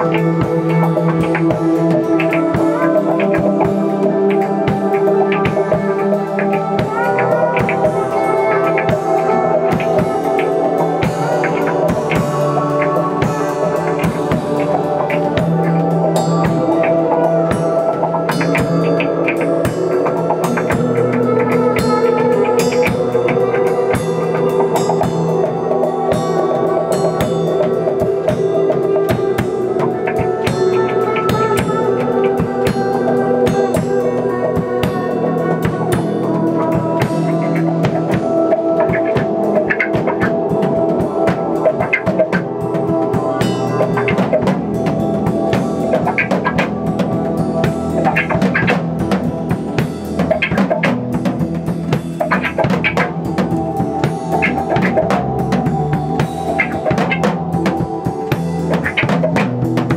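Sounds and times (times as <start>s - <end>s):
droning guitar bass and synths: 0.0s - 59.9s
drum kit beats: 0.0s - 59.9s.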